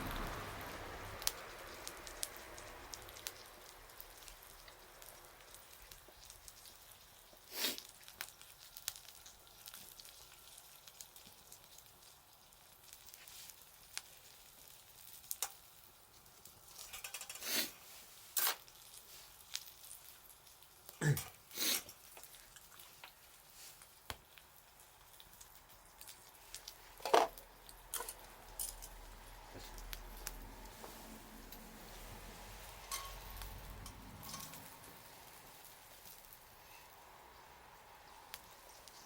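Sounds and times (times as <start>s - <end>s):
bonfire crackling: 0.0s - 39.0s.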